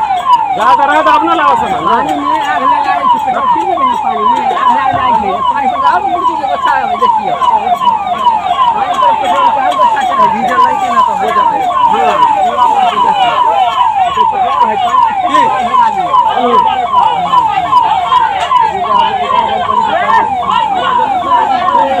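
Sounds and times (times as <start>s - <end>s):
fire engine siren: 0.0s - 22.0s
people's voices: 0.0s - 22.0s.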